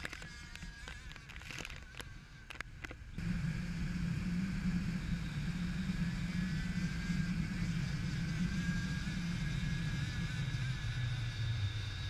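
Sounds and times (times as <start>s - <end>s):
faint high whine: 0.0s - 12.0s
motor hum: 0.0s - 12.0s.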